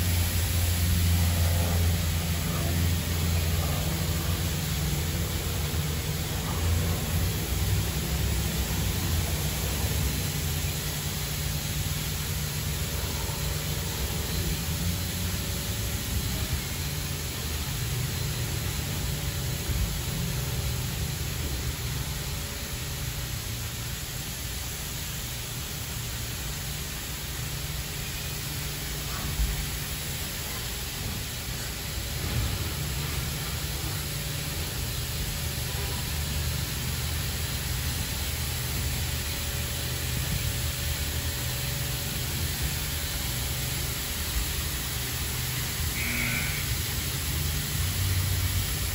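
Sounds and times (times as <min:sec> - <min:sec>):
high-pressure water spray hissing: 0:00.0 - 0:48.9.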